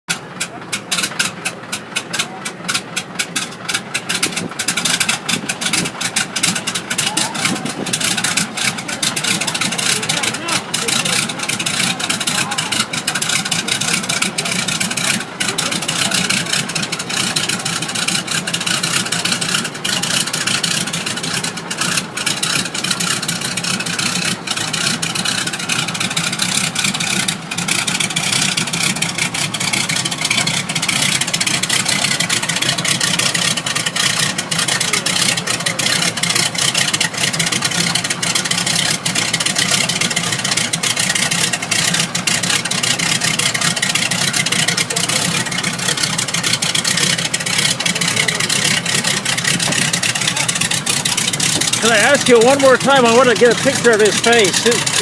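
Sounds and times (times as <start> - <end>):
propeller aircraft engine running: 0.0 - 55.0.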